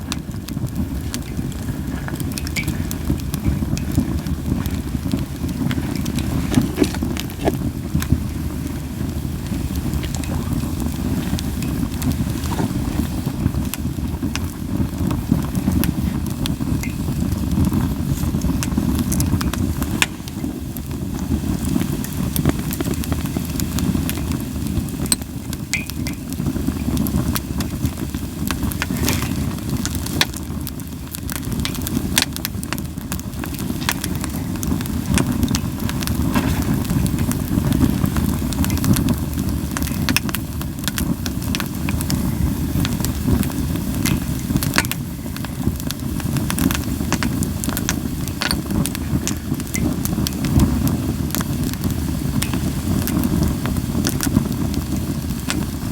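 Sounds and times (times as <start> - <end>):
fire crackling and popping: 0.0 - 55.9.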